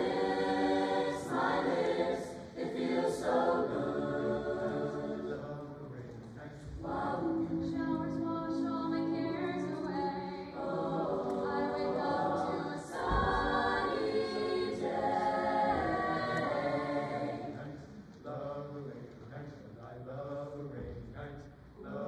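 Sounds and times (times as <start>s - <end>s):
choir singing in close harmony: 0.0s - 19.0s, 19.8s - 22.0s.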